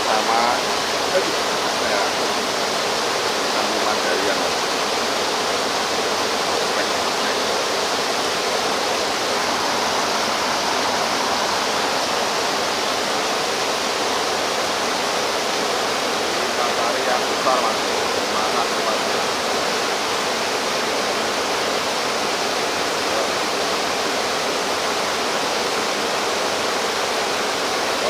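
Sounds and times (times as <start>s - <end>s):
flowing water: 0.0s - 28.0s.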